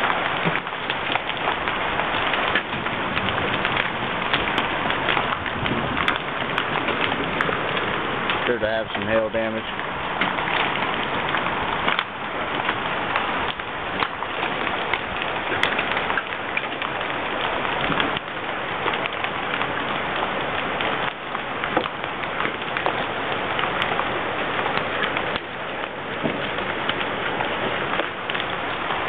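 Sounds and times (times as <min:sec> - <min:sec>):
hailstones pelting down: 0:00.0 - 0:29.0
sharp hail cracks: 0:00.0 - 0:29.0.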